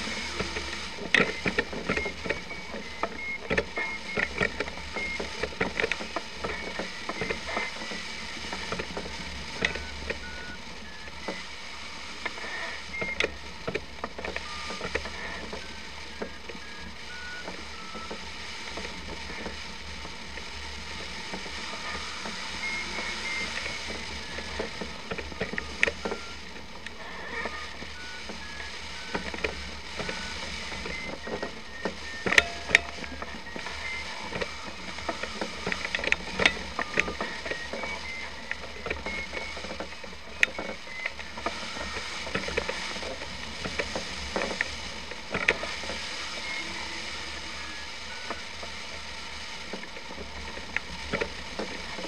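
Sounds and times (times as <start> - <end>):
variometer beeping: 0.0 - 52.0.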